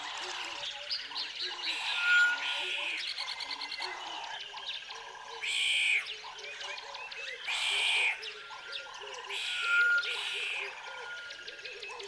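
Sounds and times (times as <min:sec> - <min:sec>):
frogs croaking: 0:00.0 - 0:12.0
small birds chirping: 0:00.0 - 0:12.0.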